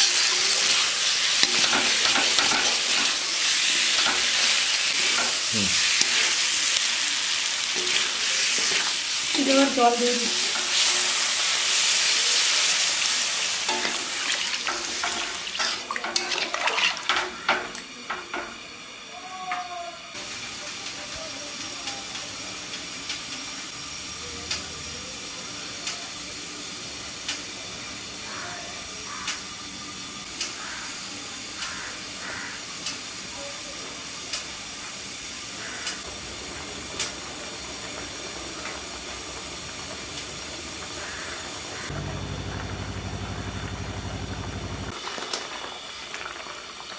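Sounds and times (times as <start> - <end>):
water sizzling in hot pan: 0.0 - 46.9.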